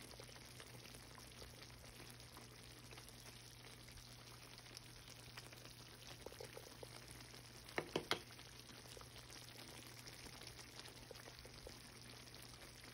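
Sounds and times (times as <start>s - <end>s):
chutney bubbling and popping: 0.0s - 12.9s.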